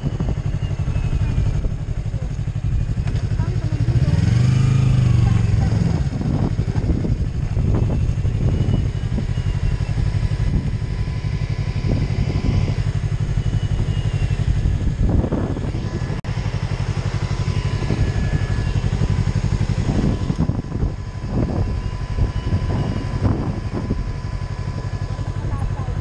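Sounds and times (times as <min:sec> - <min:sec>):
motorcycle idling: 0:00.0 - 0:26.0.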